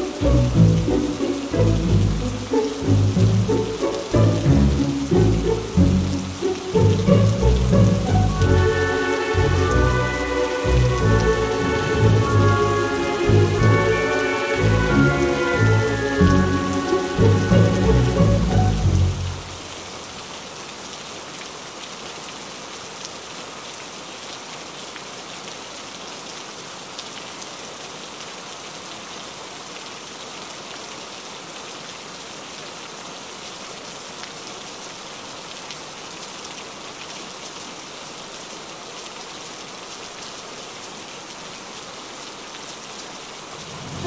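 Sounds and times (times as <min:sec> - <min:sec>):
heavy rain: 0:00.0 - 0:44.0.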